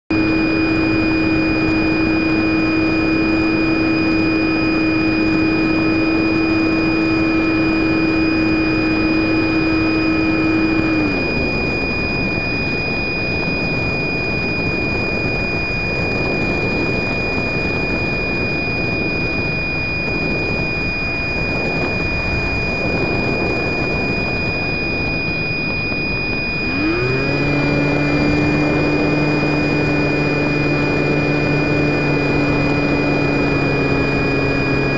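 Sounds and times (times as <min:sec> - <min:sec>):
electric motor whine: 0:00.1 - 0:34.9.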